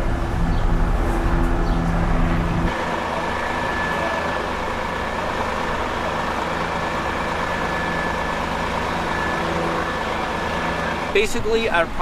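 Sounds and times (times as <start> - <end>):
diesel engines idling: 0.0 - 12.0
high constant whine: 0.0 - 12.0.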